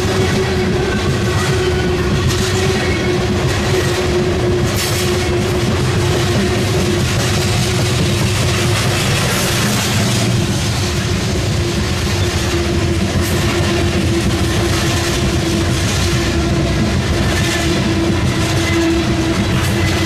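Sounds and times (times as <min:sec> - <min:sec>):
freight train wheels rumbling: 0:00.0 - 0:20.0
wheels clacking over rail joints: 0:00.0 - 0:20.0.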